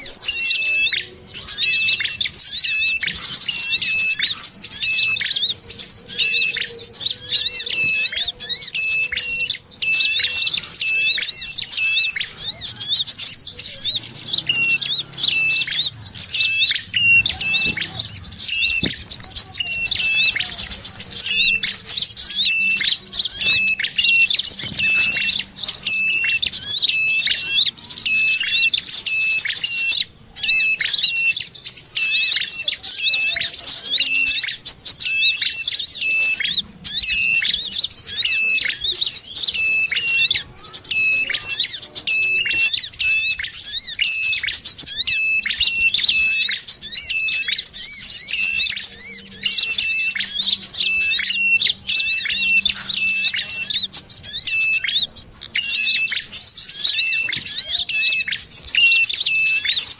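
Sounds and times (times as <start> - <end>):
bird calls: 0.0 - 59.9
small birds chattering: 0.0 - 59.9.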